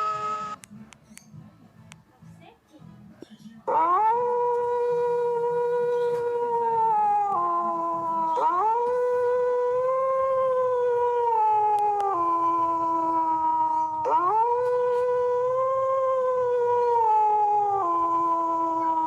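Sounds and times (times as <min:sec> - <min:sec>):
wolf howling: 0:03.7 - 0:19.0.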